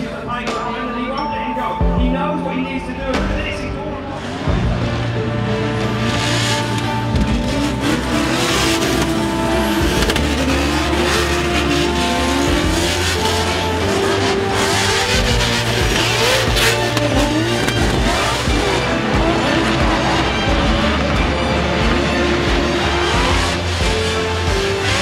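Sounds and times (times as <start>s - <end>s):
background music: 0.0s - 25.0s
car engine revving: 3.4s - 25.0s.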